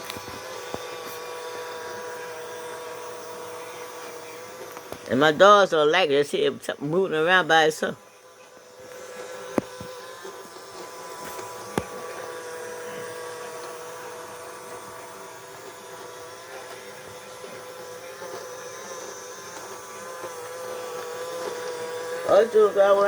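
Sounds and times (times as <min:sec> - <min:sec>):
robot vacuum motor whining: 0:00.0 - 0:23.0.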